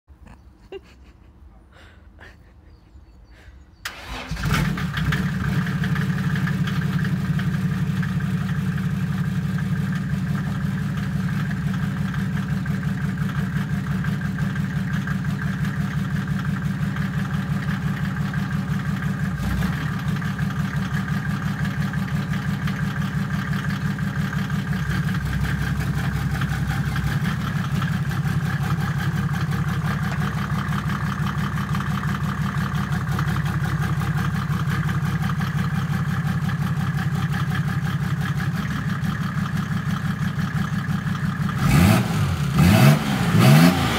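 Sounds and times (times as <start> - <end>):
diesel engine starting and idling: 3.2 - 43.9.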